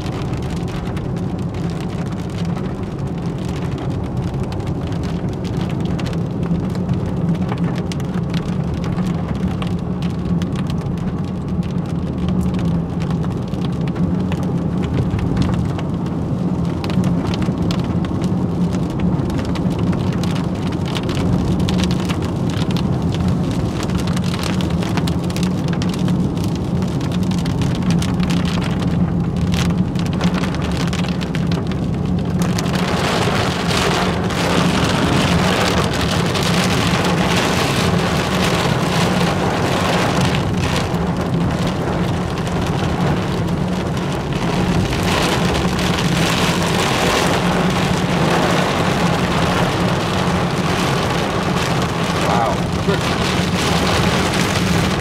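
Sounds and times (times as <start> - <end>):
car rumble: 0.0 - 55.0
heavy rain on car windshield: 0.0 - 55.0.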